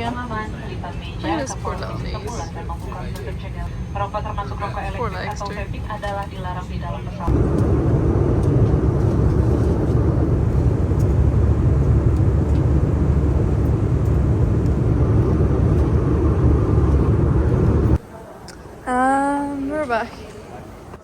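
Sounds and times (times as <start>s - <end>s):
airliner cabin engine rumble: 0.0s - 18.1s.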